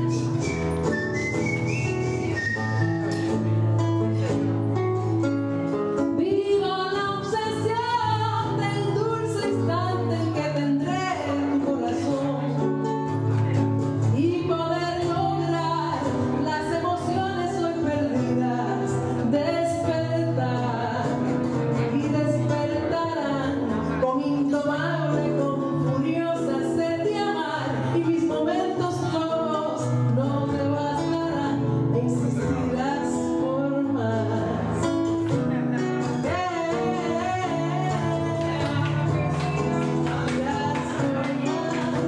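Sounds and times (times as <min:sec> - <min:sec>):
nylon-string acoustic guitar: 0:00.0 - 0:42.0
woman singing: 0:06.0 - 0:13.0, 0:14.0 - 0:35.3, 0:36.0 - 0:42.0.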